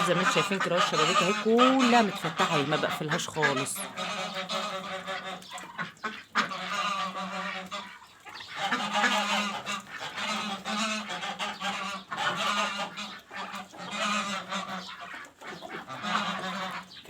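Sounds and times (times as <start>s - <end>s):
poultry flock calling and honking: 0.0s - 17.0s.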